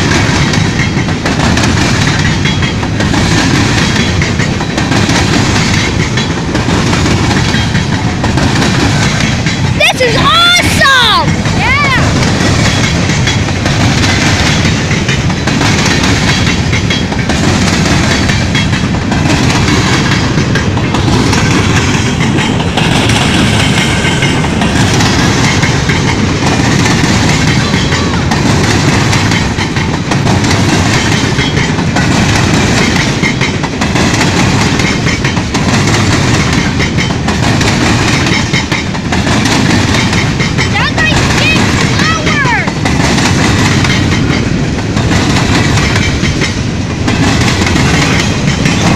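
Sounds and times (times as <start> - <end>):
railcars rumbling by: 0.0 - 48.9
wheels clickety-clack: 0.0 - 48.9.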